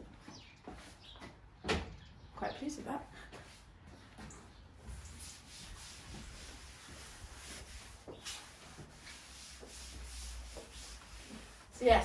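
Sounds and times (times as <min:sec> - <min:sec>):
faint rubbing and scuffing: 0:00.0 - 0:01.4, 0:02.4 - 0:12.0.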